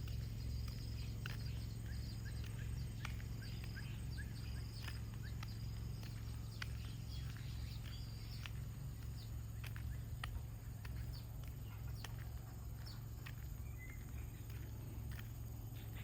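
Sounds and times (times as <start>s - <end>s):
high bird chirps: 0.0s - 14.8s
footsteps on a path: 0.0s - 16.0s
low rumble: 0.0s - 16.0s.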